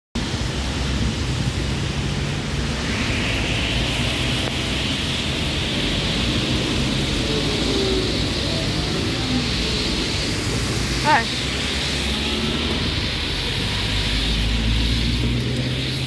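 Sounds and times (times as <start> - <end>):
rain hiss: 0.2 - 16.0
tram rolling on wet rails: 0.2 - 16.0
wet-road traffic: 0.2 - 16.0.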